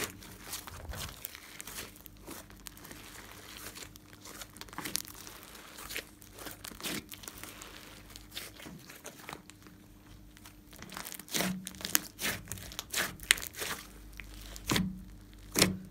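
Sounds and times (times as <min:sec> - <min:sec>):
slime crackling and popping: 0:00.0 - 0:15.9.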